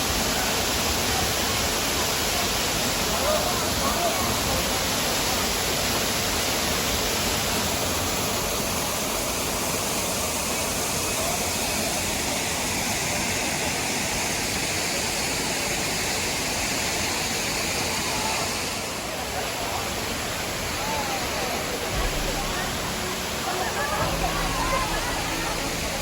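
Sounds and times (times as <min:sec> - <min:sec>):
waterfall rushing: 0:00.0 - 0:13.3, 0:16.8 - 0:26.0.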